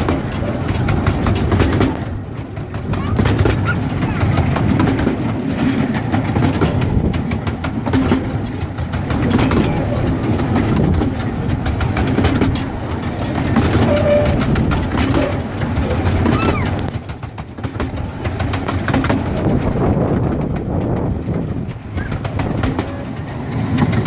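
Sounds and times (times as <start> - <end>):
small train rumbling on track: 0.0 - 24.0
wheels clicking over rail joints: 0.0 - 24.0.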